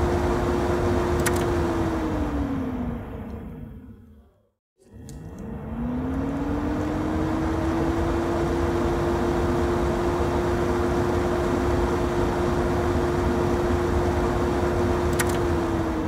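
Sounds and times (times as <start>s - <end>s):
kitchen exhaust fan running: 0.0s - 3.2s, 5.0s - 16.0s.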